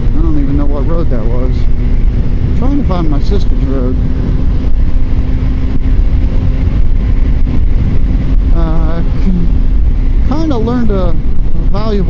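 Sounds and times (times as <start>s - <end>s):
motorcycle engine drone: 0.0s - 12.0s
wind rush on microphone: 0.0s - 12.0s.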